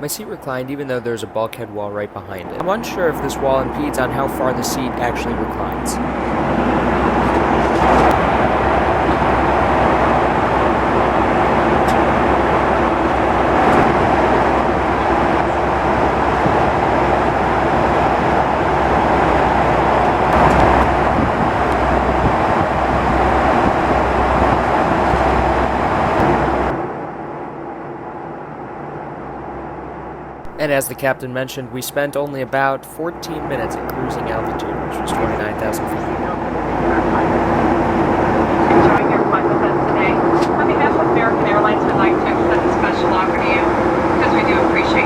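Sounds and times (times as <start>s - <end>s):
airplane cabin engine roar: 0.0s - 45.0s.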